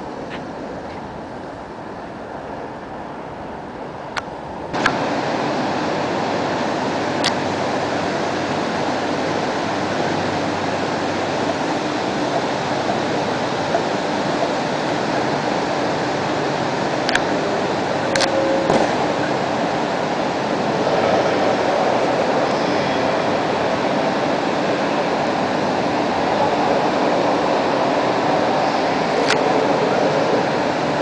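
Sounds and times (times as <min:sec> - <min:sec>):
street noise: 0:00.0 - 0:31.0
tram wheels rolling: 0:00.0 - 0:31.0.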